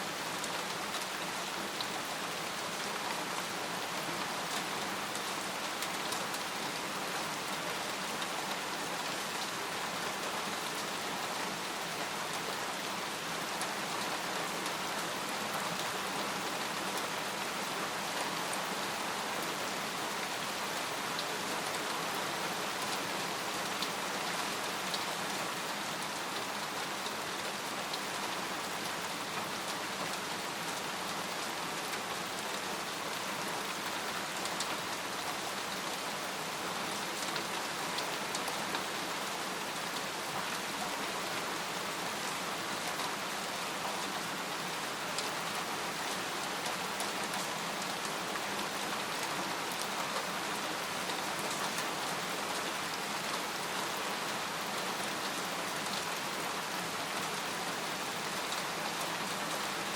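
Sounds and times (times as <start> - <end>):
rain on a tent: 0.0 - 59.9.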